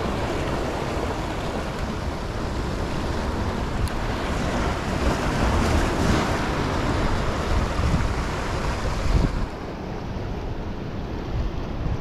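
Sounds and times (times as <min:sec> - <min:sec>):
surf breaking on rocks: 0:00.0 - 0:09.8
wind buffeting microphone: 0:00.0 - 0:12.0.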